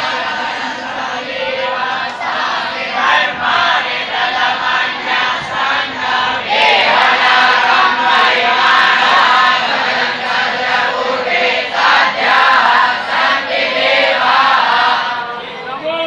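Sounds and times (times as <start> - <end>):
voices chanting in unison: 0.0 - 15.9.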